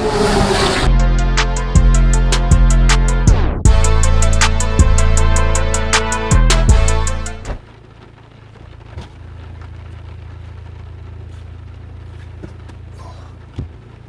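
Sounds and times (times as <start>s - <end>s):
car rumble: 0.0s - 1.4s, 2.1s - 14.0s.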